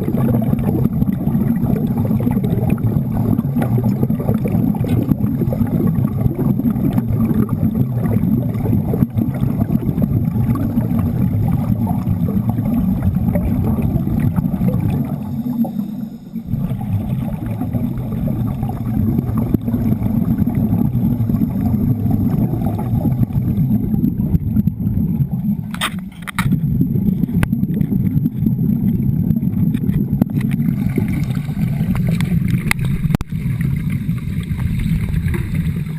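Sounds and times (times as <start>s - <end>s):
underwater welding arc bubbling: 0.0s - 35.9s.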